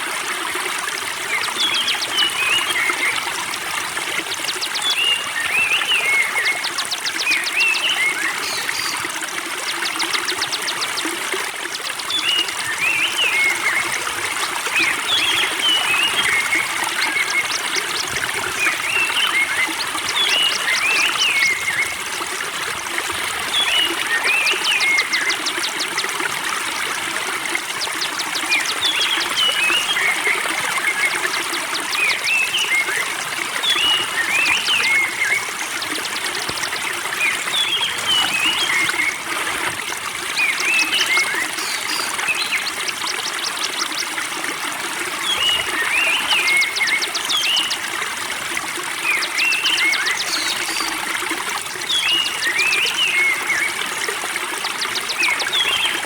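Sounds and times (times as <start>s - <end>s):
spring water trickling: 0.0s - 56.0s.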